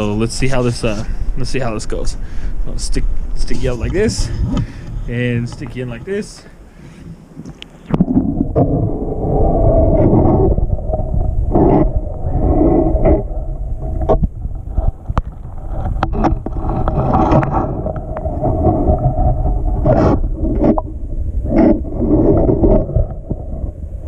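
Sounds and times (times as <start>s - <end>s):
underwater rumble and sloshing: 0.0s - 6.2s, 6.8s - 24.0s.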